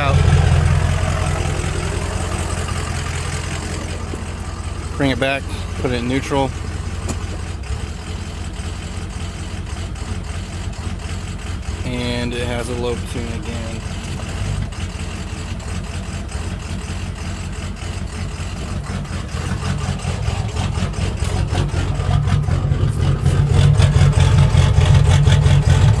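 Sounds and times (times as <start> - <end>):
diesel engine idling roughly: 0.0 - 26.0.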